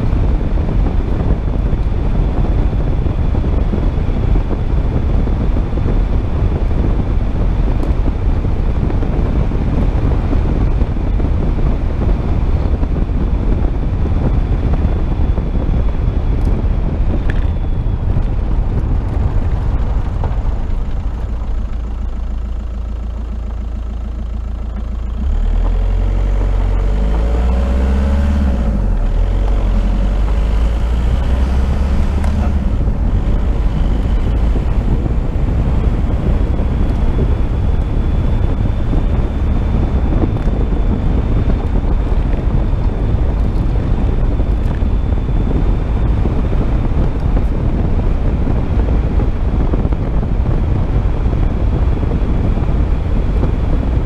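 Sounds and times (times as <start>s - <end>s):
car engine: 0.0s - 54.0s.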